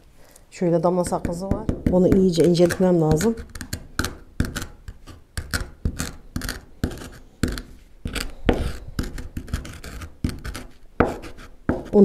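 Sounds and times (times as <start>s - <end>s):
gum being crushed knocks and scrapes: 1.1s - 12.0s.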